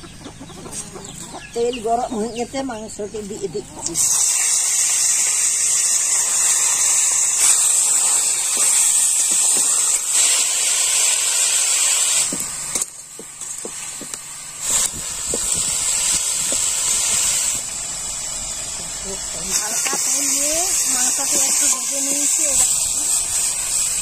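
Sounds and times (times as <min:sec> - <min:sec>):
meat sizzling in hot oil: 0:04.0 - 0:24.0.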